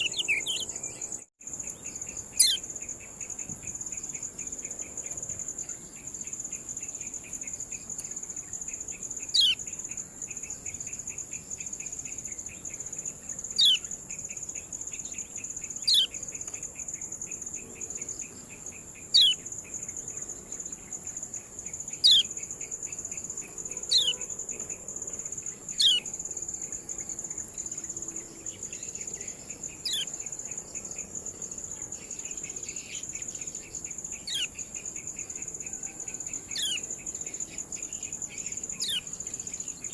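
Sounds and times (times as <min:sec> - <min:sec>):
cricket chirps: 0:00.0 - 0:39.9.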